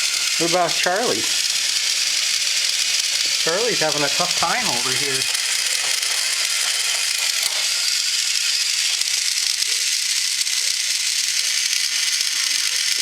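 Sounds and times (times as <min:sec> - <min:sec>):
toy trains whirring on track: 0:00.0 - 0:13.0.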